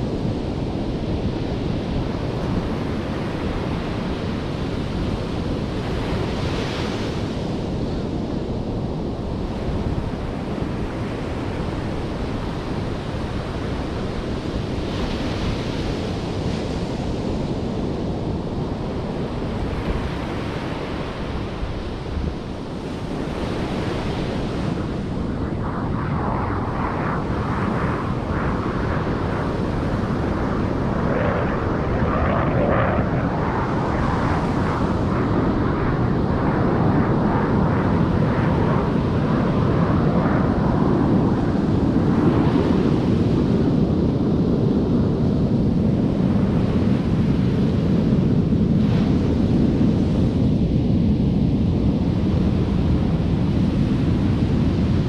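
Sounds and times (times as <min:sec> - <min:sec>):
wind noise on microphone: 0:00.0 - 0:55.0.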